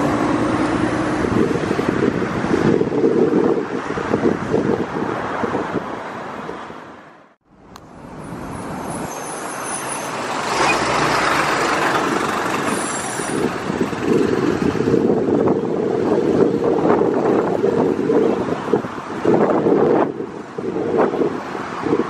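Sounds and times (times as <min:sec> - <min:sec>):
wind buffeting microphone: 0:00.0 - 0:07.0, 0:10.1 - 0:22.0.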